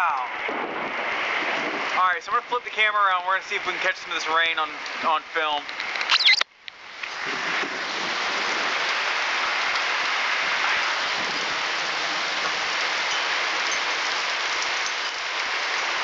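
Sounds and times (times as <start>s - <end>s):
heavy rain pouring: 0.0s - 6.2s, 6.8s - 16.0s.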